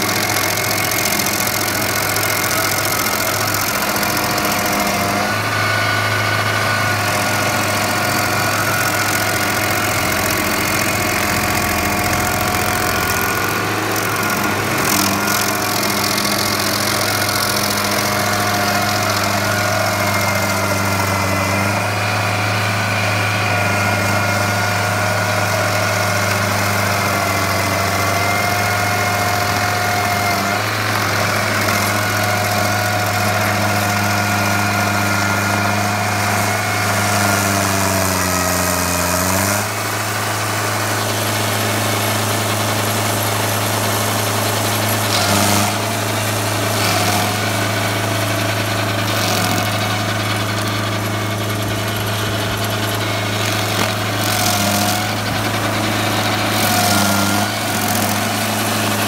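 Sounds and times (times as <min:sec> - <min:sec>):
machine engine running: 0:00.0 - 0:59.0.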